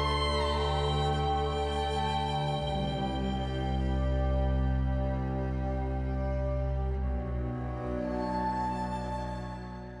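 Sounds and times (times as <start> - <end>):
sad sustained music chord: 0.0 - 10.0.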